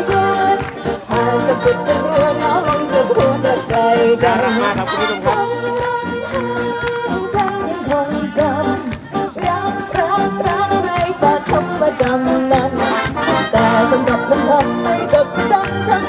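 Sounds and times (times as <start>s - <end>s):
wind instruments: 0.0s - 16.0s
woman singing: 0.0s - 16.0s.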